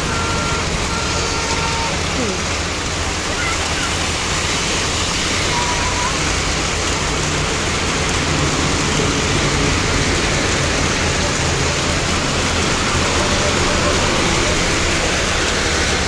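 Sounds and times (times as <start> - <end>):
heavy rain on water: 0.0 - 16.0.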